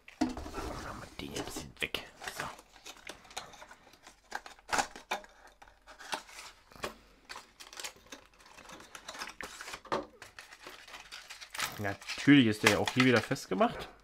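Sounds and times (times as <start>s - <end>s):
plastic packaging crinkling: 2.0s - 13.7s.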